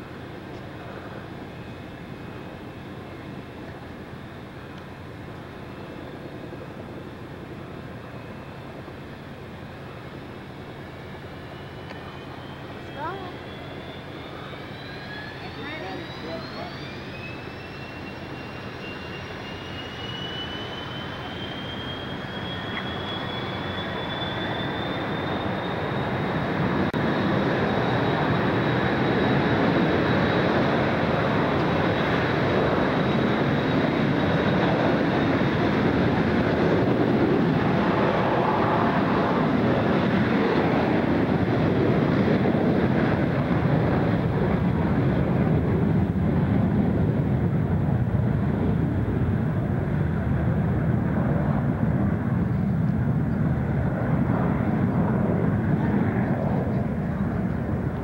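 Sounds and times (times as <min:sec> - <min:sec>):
jet engine roar: 0:00.0 - 0:58.0
jet engine whine: 0:00.0 - 0:58.0.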